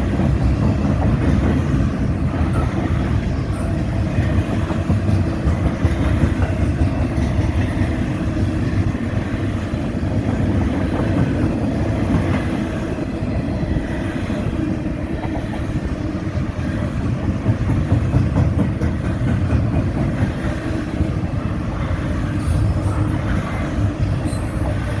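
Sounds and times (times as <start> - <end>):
freight train wheels clattering: 0.0 - 25.0.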